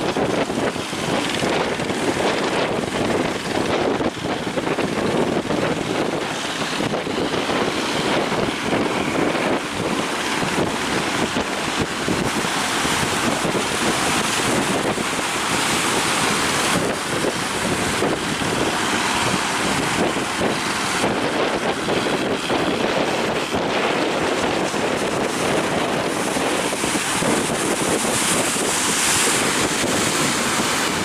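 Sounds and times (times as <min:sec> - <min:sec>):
heavy sea surf crashing: 0:00.0 - 0:31.0
wind buffeting the microphone: 0:00.0 - 0:31.0.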